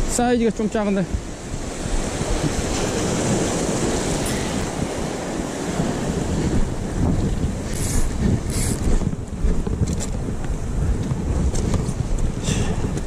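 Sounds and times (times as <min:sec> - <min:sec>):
wind on microphone: 0:00.0 - 0:13.0
sea swell washing over rocks: 0:00.4 - 0:13.0.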